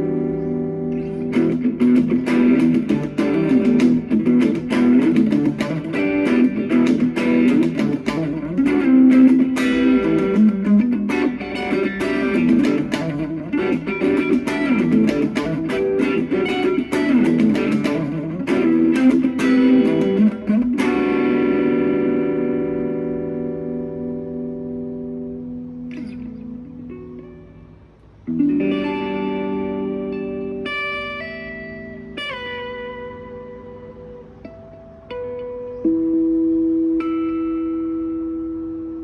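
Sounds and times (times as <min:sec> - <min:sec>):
guitar chord ringing: 0:00.0 - 0:39.0
guitar picked notes: 0:00.0 - 0:39.0.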